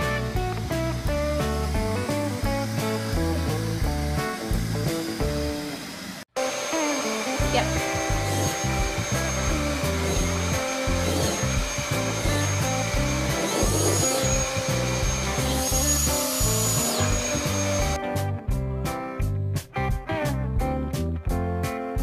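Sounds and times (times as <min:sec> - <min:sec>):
background music with steady beat: 0:00.0 - 0:05.6, 0:07.4 - 0:22.0
vacuum cleaner whining: 0:00.0 - 0:18.0.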